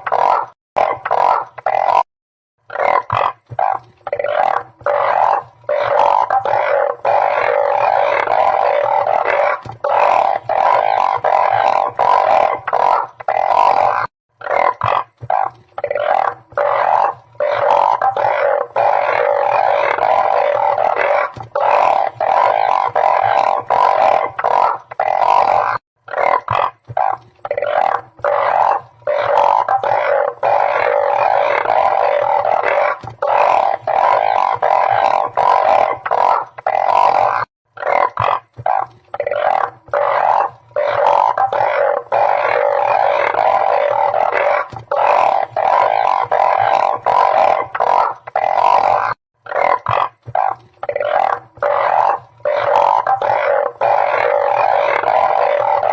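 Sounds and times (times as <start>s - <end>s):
frogs calling: 0.0s - 55.9s.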